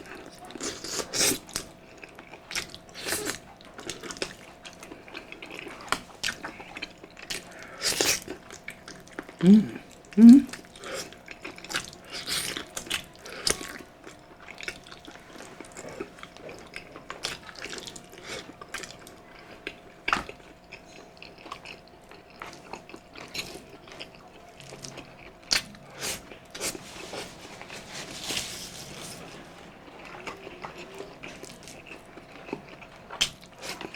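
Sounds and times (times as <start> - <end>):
chewing and biting food: 0.0 - 33.9.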